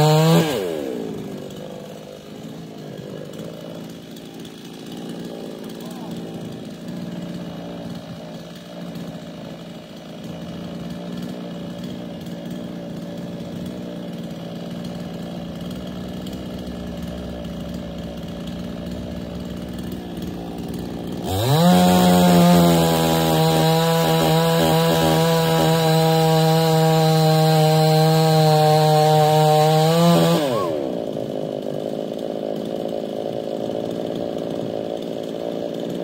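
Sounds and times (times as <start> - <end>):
chainsaw cutting log: 0.0 - 36.0.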